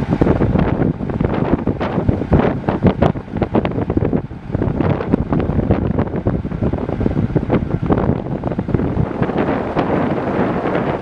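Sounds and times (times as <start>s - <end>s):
steady low rumble: 0.0s - 11.0s
wind buffeting microphone: 0.0s - 11.0s.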